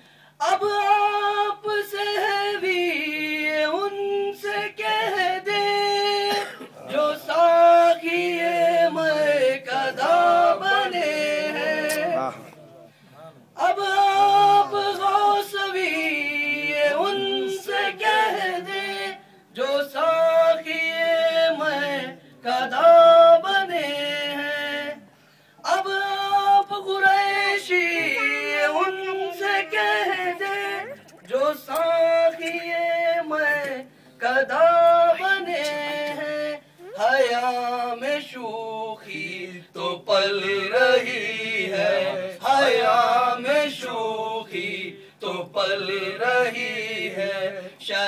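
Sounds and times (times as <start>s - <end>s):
man singing unaccompanied: 0.4s - 12.5s, 13.5s - 48.0s.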